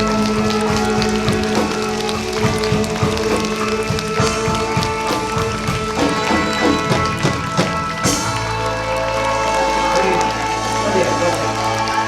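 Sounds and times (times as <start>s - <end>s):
drum beats: 0.0s - 12.0s
live band playing chords: 0.0s - 12.0s.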